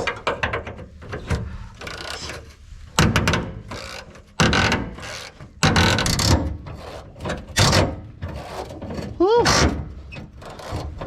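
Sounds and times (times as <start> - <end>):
wrench scraping bolt loose: 0.0 - 11.0.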